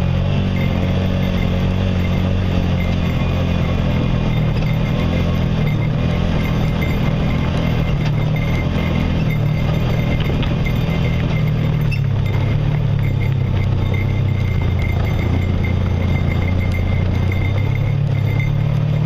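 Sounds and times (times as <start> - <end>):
off-road vehicle engine running: 0.0 - 19.0
rattles and knocks over rocks: 0.2 - 19.0.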